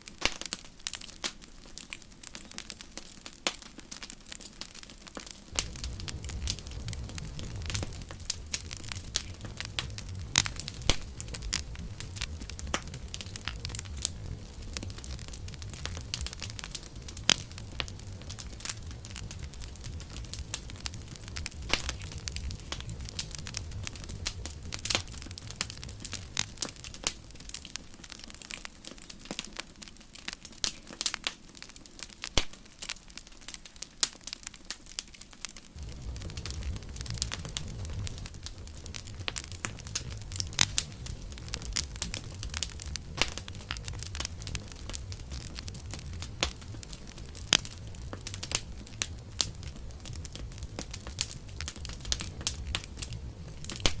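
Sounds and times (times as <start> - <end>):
campfire crackling and popping: 0.0 - 54.0
low rumble of flames: 0.0 - 54.0.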